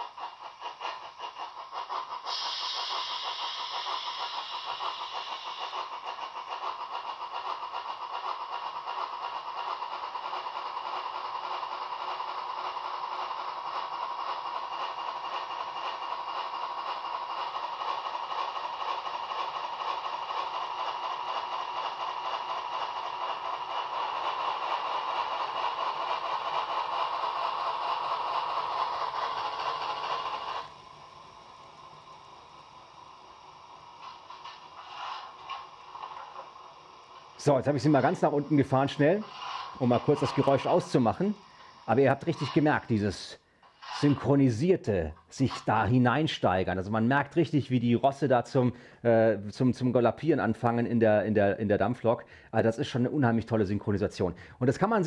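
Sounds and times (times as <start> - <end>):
model steam locomotive chuffing: 0.0 - 55.0.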